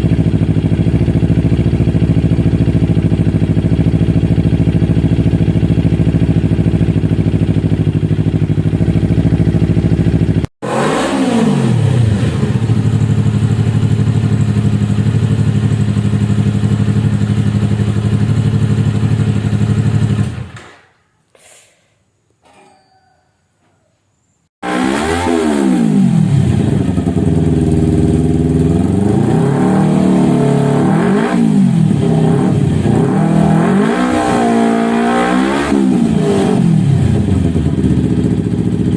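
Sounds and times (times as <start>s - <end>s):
motorcycle engine revving: 0.0s - 20.7s, 24.6s - 38.9s.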